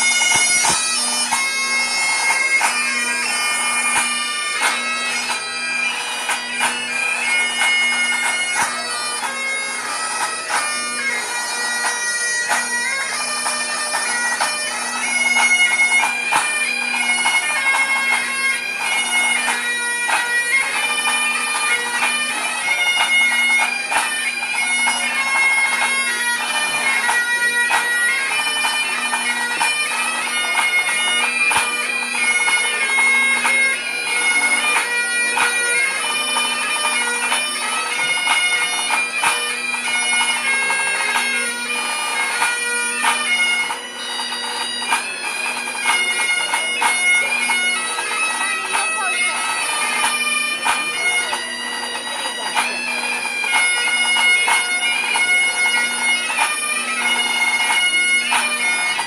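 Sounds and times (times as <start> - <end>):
bagpipes playing: 0.0 - 59.0.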